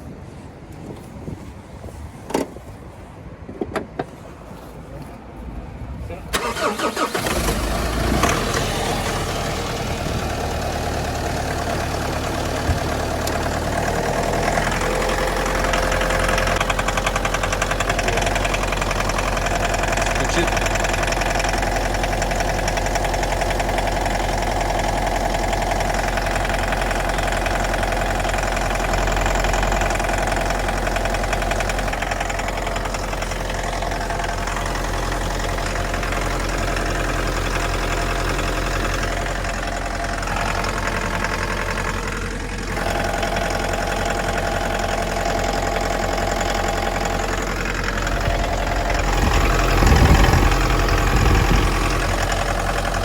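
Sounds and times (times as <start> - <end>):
diesel engine knocking: 6.4 - 53.0.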